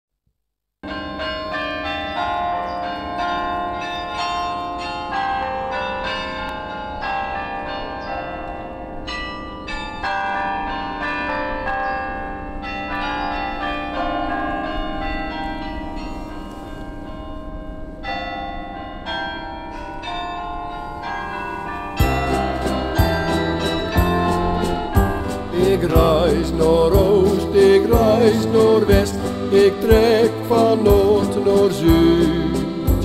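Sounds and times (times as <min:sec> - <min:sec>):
church bells ringing: 0:00.8 - 0:33.0.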